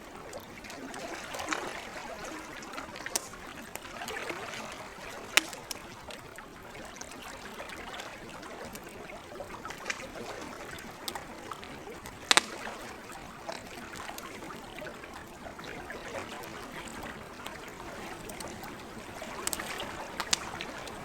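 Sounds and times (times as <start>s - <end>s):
campfire crackling and popping: 0.0s - 21.0s
lake water lapping: 0.0s - 21.0s.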